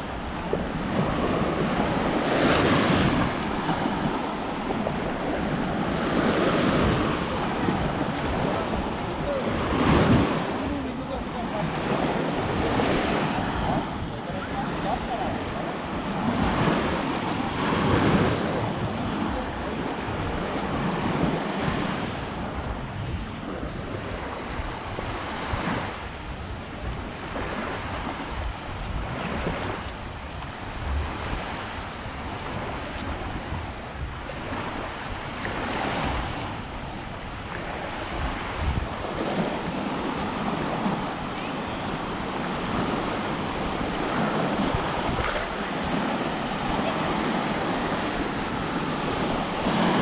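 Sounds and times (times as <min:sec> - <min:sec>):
waves washing on sandy shore: 0:00.0 - 0:50.0
wind on microphone: 0:00.0 - 0:50.0.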